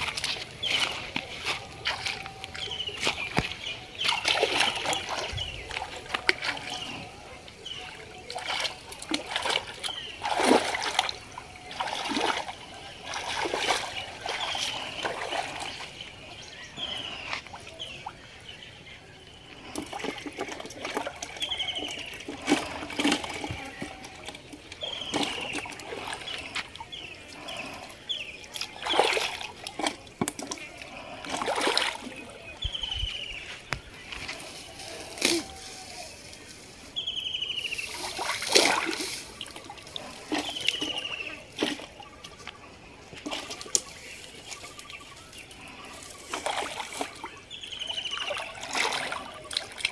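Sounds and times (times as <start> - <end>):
bird chirping: 0.0 - 49.7
water splashing and sloshing: 0.0 - 49.9.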